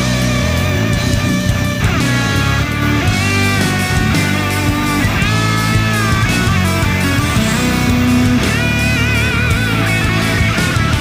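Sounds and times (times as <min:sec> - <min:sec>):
guitar bending long notes: 0:00.0 - 0:11.0
low bass line: 0:00.0 - 0:11.0
rock music: 0:00.0 - 0:11.0.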